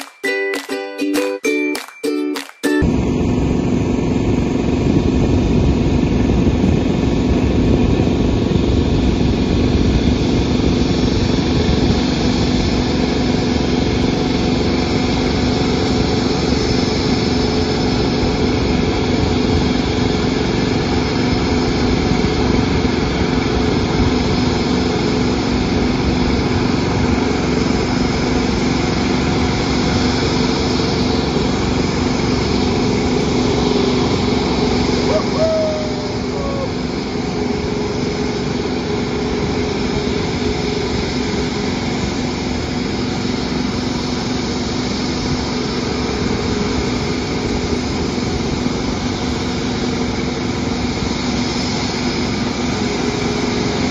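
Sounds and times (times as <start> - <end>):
engines droning: 2.8 - 53.9.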